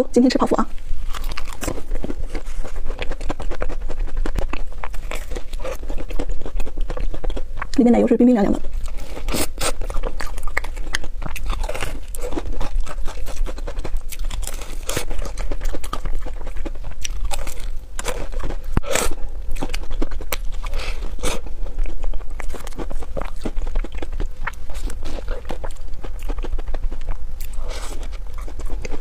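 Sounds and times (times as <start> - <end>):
crunching and chewing pastry: 0.9 - 29.0.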